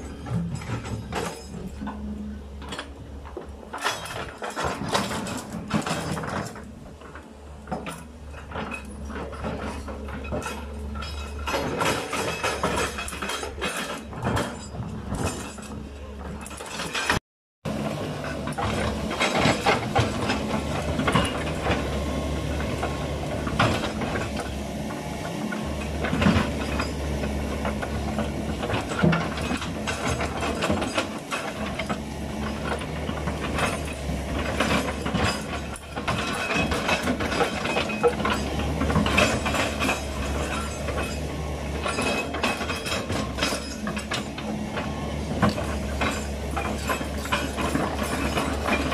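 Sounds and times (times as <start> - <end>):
metallic clanks and creaks: 0.0 - 17.2, 17.8 - 48.9
excavator diesel engine running: 0.0 - 48.9.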